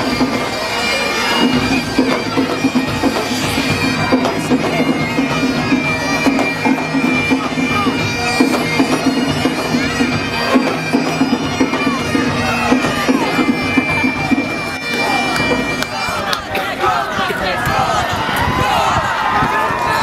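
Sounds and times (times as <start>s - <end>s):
bagpipes playing with drone: 0.0s - 18.0s.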